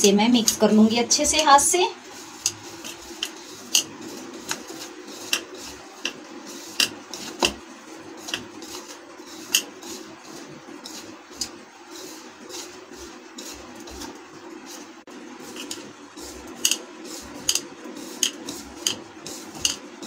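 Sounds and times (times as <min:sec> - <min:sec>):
hand rubbing flour in a bowl: 0:00.0 - 0:20.0.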